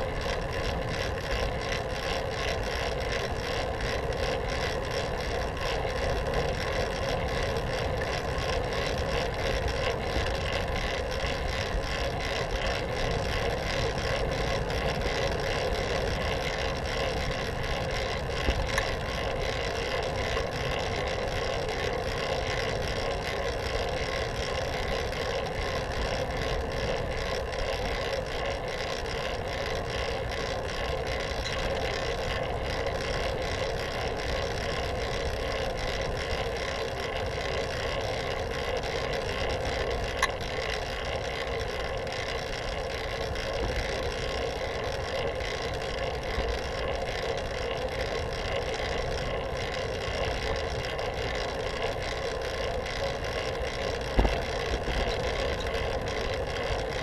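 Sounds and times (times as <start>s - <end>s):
bicycle chain and tyres whirring: 0.0s - 57.0s.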